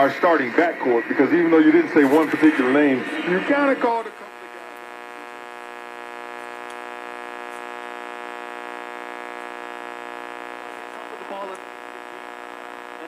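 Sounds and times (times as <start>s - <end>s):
car radio buzzing hum: 0.0s - 13.0s.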